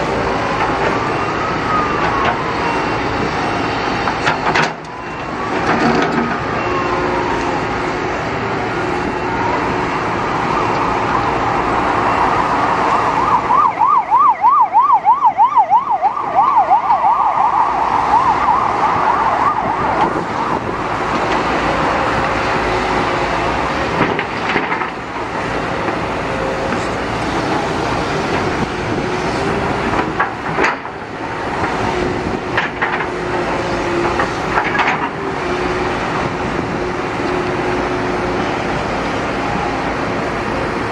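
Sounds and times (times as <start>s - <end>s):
emergency vehicle siren warbling: 0.0s - 40.9s
traffic and machinery noise: 0.0s - 40.9s.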